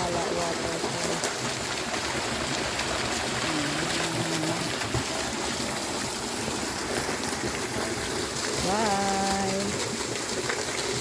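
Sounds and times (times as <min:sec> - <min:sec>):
water rushing from small waterfall: 0:00.0 - 0:11.0.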